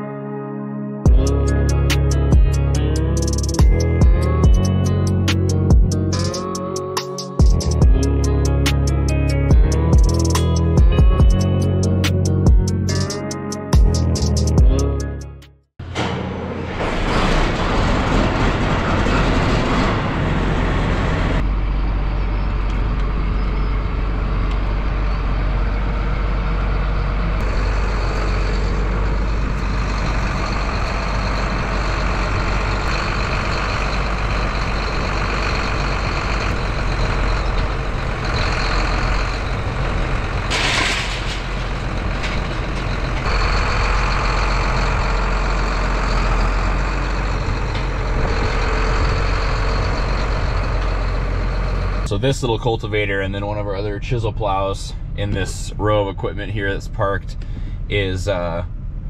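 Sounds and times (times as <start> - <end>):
tractor diesel engine running: 1.1 - 59.0.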